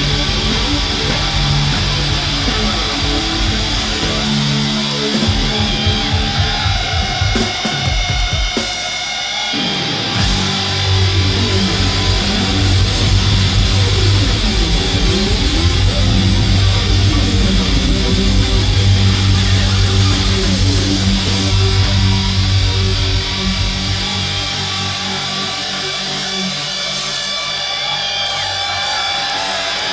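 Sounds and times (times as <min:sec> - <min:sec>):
distorted electric guitar lines: 0:00.0 - 0:29.9
heavy metal band playing: 0:00.0 - 0:29.9.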